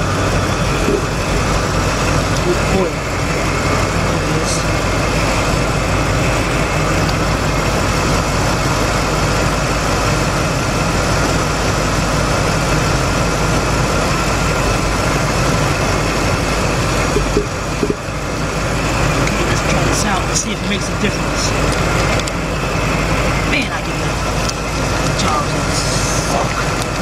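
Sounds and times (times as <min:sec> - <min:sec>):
rough engine idling: 0:00.0 - 0:27.0.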